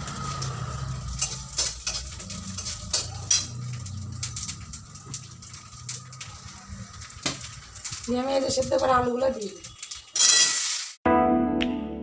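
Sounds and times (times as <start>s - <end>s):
metal utensils clinking on bowls: 0.0s - 10.8s
spices sizzling in hot oil: 0.0s - 11.0s.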